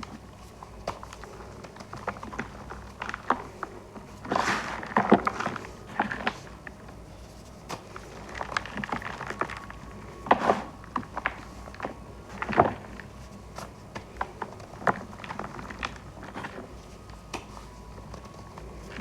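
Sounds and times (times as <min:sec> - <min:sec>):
chalk balls crunching: 0:00.1 - 0:19.0.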